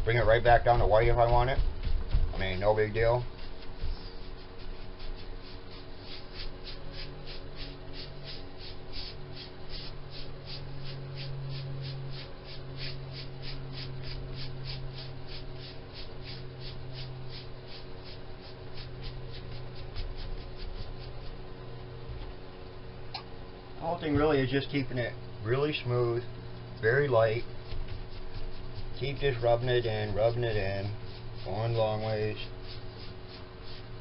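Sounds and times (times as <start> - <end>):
steady low hum: 0.0 - 34.0
paintbrush scratching on wood: 0.1 - 21.4, 26.5 - 34.0.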